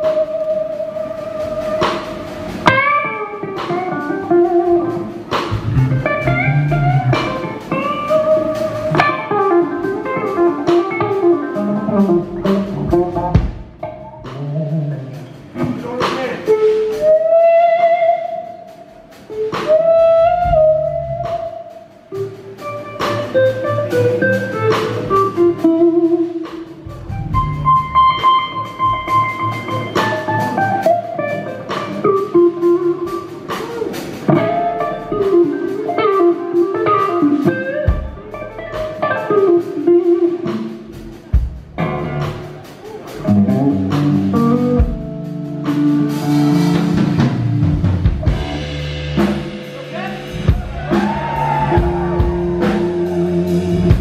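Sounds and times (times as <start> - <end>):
electric guitar solo: 0.0 - 15.7, 16.4 - 48.6, 49.2 - 54.0
bass: 0.0 - 54.0
drums: 0.0 - 54.0.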